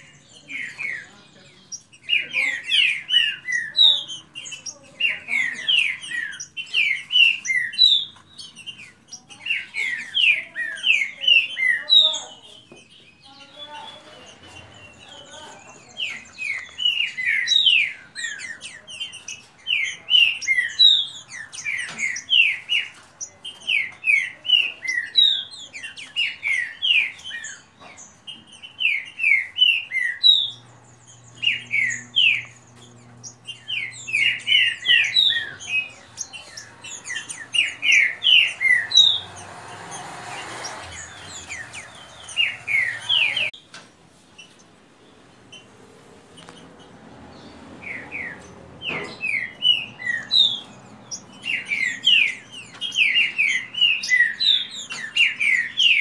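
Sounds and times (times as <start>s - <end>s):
birds singing whistled phrases: 0.0s - 43.7s, 46.4s - 56.0s.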